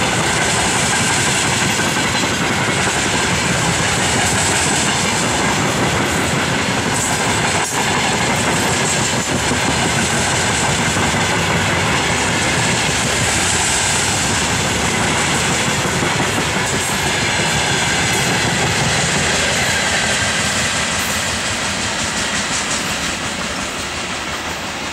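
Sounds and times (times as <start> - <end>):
train wheels clattering on rails: 0.0 - 24.9.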